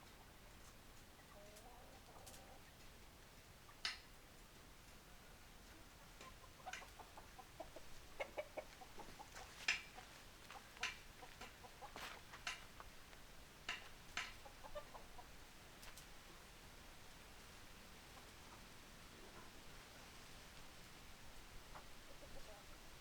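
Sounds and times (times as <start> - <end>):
chickens clucking quietly: 0.0 - 23.0.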